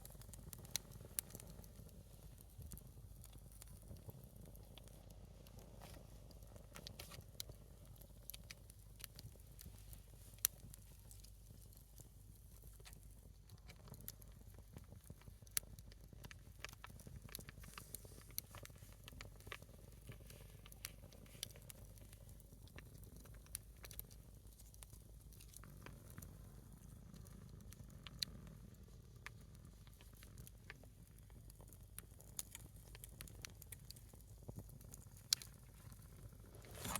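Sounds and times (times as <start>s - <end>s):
firewood crackling and popping: 0.0s - 36.9s.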